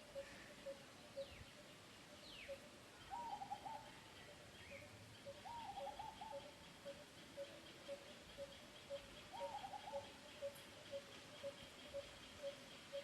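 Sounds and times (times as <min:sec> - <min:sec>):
warbled bird call: 0:02.4 - 0:13.0.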